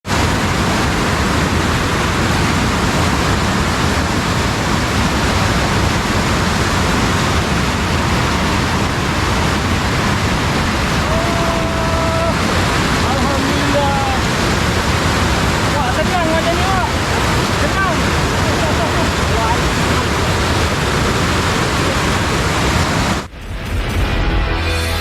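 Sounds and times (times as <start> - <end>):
rushing flowing water: 0.0 - 23.3.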